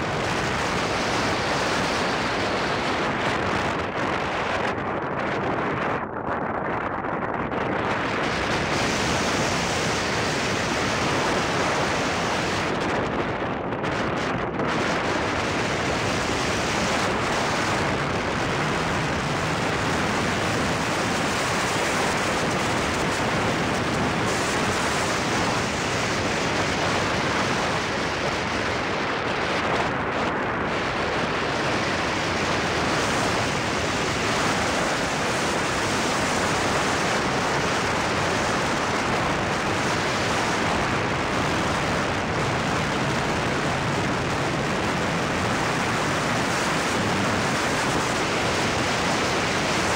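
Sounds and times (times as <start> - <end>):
wind rushing on microphone: 0.0 - 49.9.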